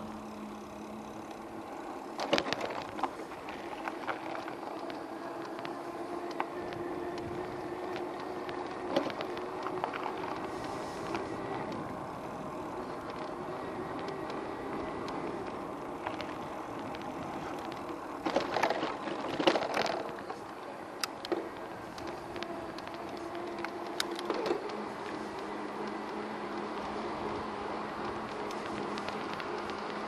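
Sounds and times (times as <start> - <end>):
bike clicks and rattles: 0.0 - 30.0
e-bike motor hum: 0.0 - 30.0.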